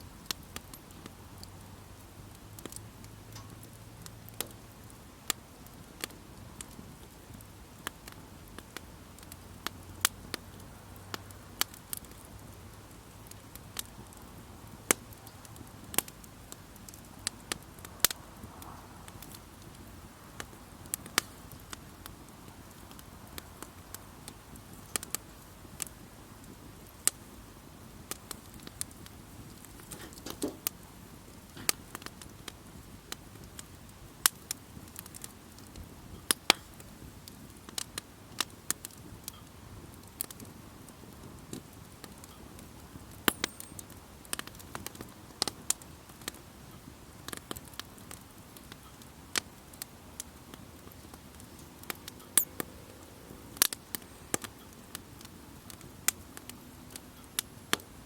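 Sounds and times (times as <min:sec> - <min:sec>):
fire burning softly: 0:00.0 - 0:58.0
campfire pops and snaps: 0:00.1 - 0:46.4, 0:47.1 - 0:57.9.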